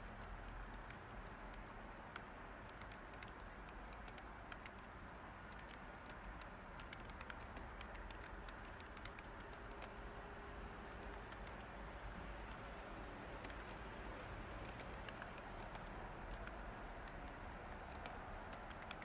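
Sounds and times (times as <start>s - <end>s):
typing on computer keyboard: 0.0s - 10.0s, 10.9s - 11.8s, 12.4s - 13.9s, 14.5s - 19.0s
white noise hiss: 0.0s - 19.0s.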